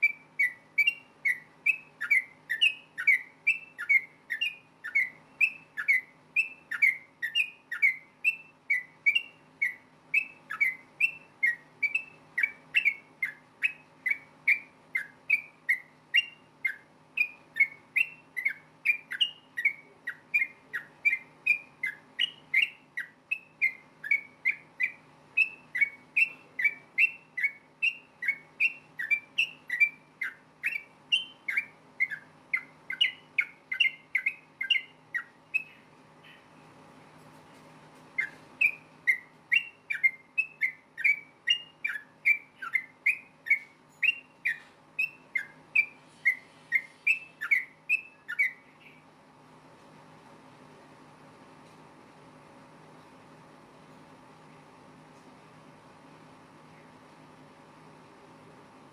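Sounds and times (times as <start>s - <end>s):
bulbul singing whistled notes: 0.0s - 36.5s, 38.2s - 49.0s
faint low hum: 0.0s - 58.9s.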